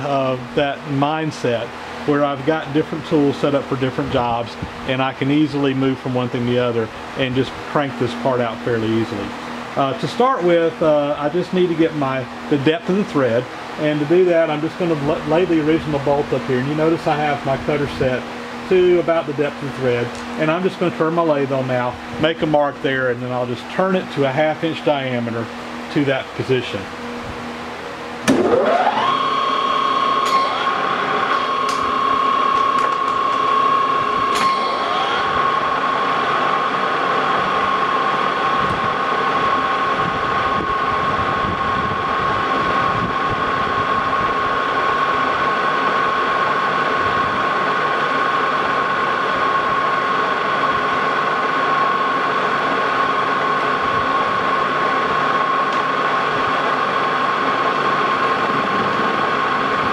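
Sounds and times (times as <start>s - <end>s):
metal lathe gear whine: 0.0s - 59.9s.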